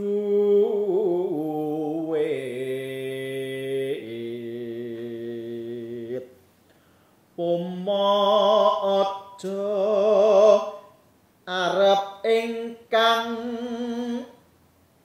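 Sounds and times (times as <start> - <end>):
man singing unaccompanied: 0.0 - 6.4, 7.3 - 14.4.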